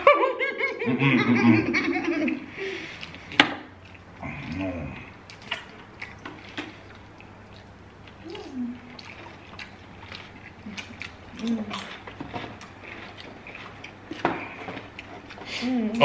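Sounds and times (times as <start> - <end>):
wet chewing and lip-smacking: 2.3 - 16.0.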